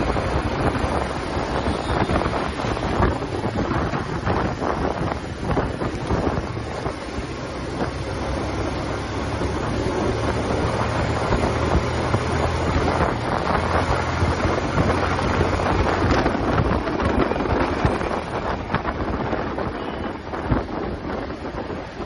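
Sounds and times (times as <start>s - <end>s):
motorcycle engine running: 0.0s - 19.9s
wind noise on microphone: 0.0s - 22.0s.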